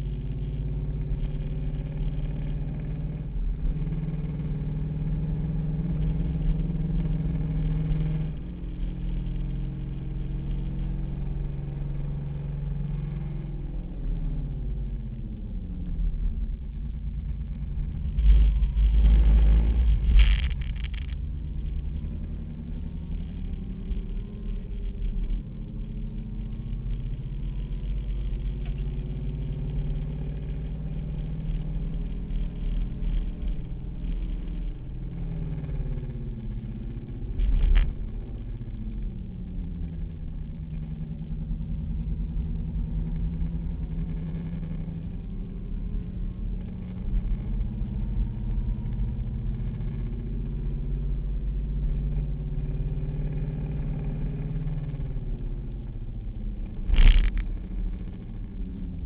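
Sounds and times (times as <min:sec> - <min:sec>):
car engine revving: 0:00.0 - 0:59.0
loud low rumbles: 0:00.0 - 0:59.0.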